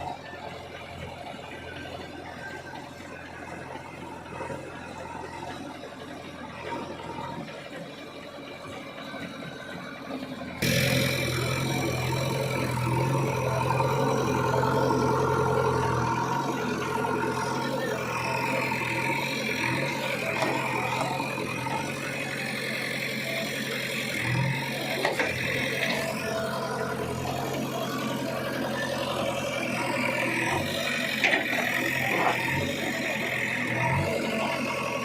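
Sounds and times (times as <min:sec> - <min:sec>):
diesel machinery engine running: 0:00.0 - 0:35.0.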